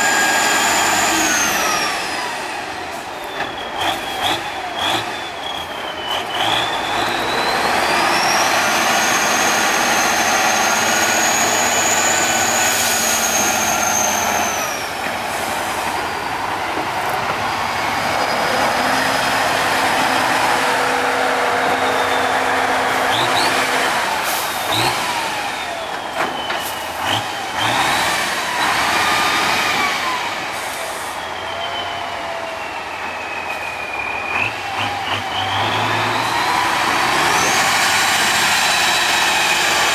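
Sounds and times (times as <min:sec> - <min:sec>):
truck diesel engine revving: 0:00.0 - 0:31.5, 0:34.0 - 0:39.9.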